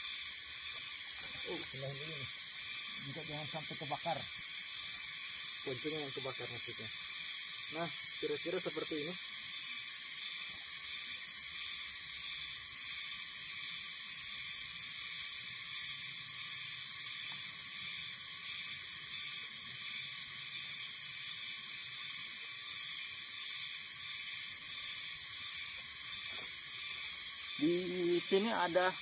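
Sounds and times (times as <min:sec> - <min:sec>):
forest insects buzzing: 0:00.0 - 0:29.0.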